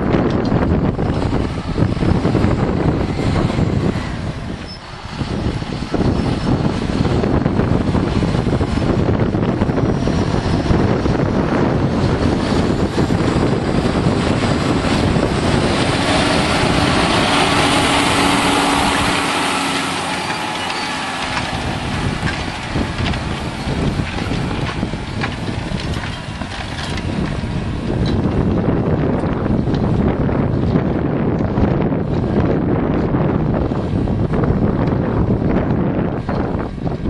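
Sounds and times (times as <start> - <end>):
tractor diesel engine running: 0.0 - 37.0
wind buffeting microphone: 0.0 - 37.0.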